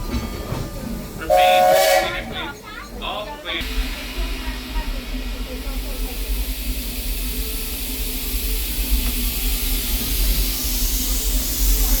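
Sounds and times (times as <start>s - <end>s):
steam locomotive hissing steam: 1.2s - 2.5s, 3.6s - 12.0s.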